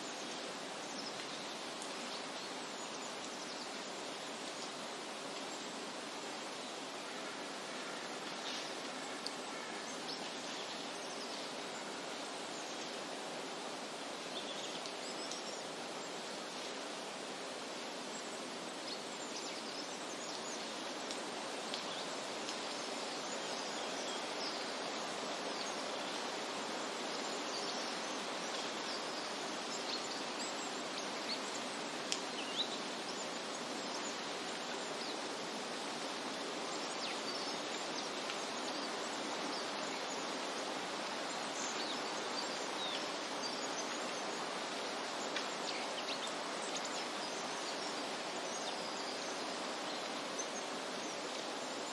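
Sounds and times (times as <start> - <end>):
steady rushing hiss: 0.0 - 51.9.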